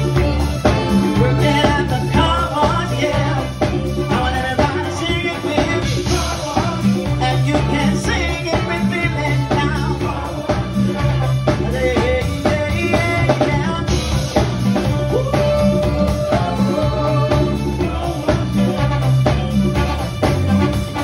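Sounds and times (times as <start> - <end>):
bass guitar: 0.0 - 21.0
drum kit: 0.0 - 21.0
horn section: 0.0 - 21.0
keyboard: 0.0 - 21.0.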